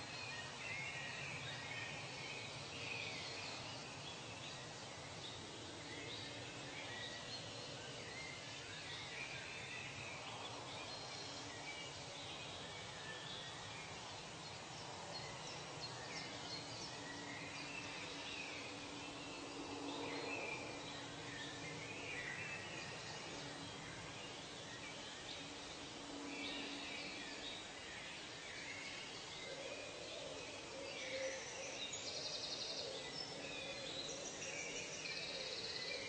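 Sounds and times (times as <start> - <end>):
faint background hiss: 0.0 - 36.0.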